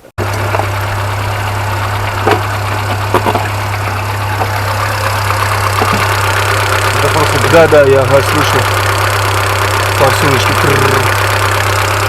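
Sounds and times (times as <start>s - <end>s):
car engine idling: 0.0s - 12.0s
fuel injectors ticking: 0.2s - 12.0s.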